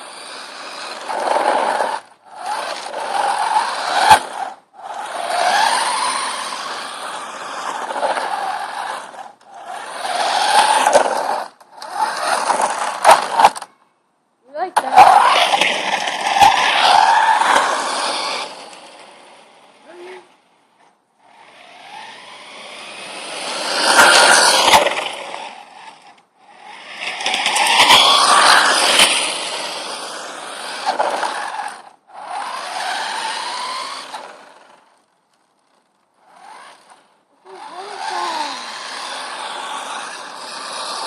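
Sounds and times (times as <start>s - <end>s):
rc car motor whine: 0.0s - 13.7s, 14.9s - 20.4s, 21.2s - 41.0s
tyres scraping and skidding: 0.0s - 13.7s, 14.7s - 41.0s.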